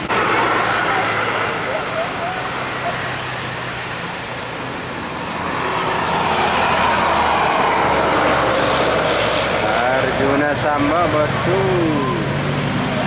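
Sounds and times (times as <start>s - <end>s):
heavy vehicle engine hum: 0.0s - 13.0s.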